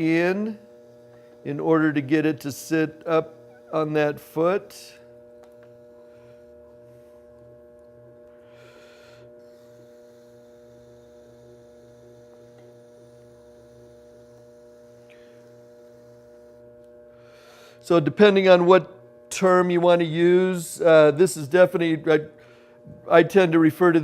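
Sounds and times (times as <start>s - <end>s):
pottery wheel motor humming: 0.0s - 24.0s.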